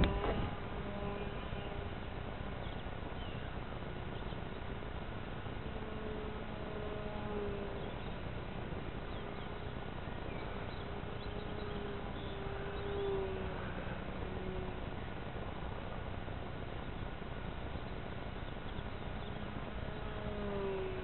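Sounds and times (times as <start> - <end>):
distant model airplane motor droning: 0.0 - 21.0.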